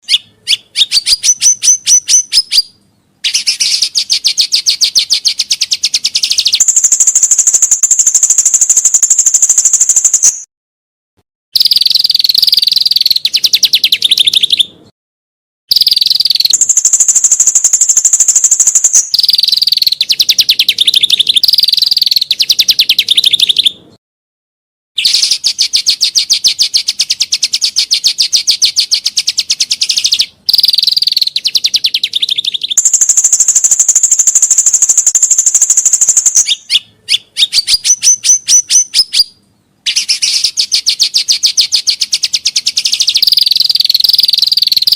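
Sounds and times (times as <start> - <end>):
songbird song rapid repeated notes: 0.0 - 10.5, 11.6 - 14.9, 15.7 - 24.0, 25.0 - 44.9.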